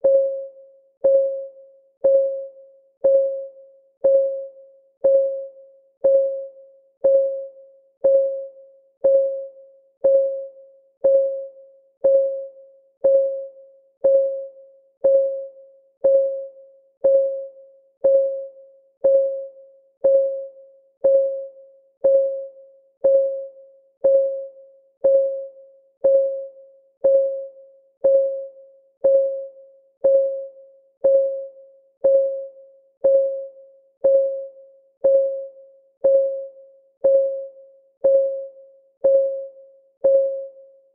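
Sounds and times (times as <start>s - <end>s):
timer clock ticking: 3.0s - 40.5s.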